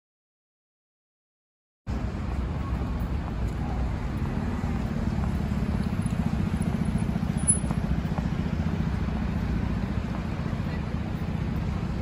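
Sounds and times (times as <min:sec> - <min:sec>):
road traffic rumble: 0:01.9 - 0:12.0.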